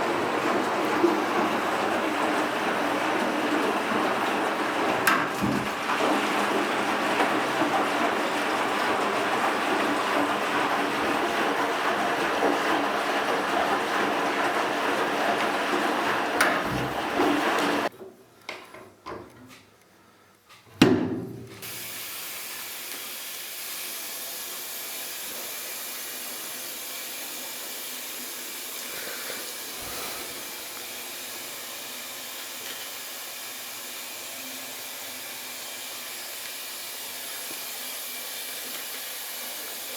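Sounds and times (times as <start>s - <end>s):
water pouring into washing machine: 0.0s - 17.9s, 21.6s - 39.9s.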